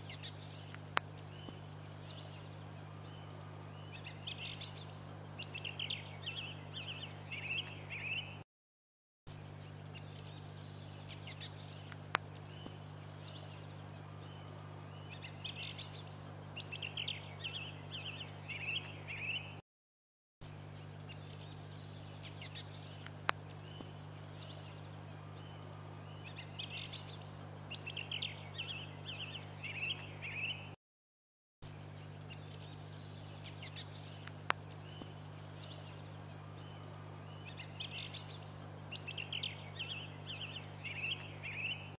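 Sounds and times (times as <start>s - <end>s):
steady low hum: 0.0s - 8.4s, 9.3s - 19.6s, 20.4s - 30.8s, 31.7s - 41.9s.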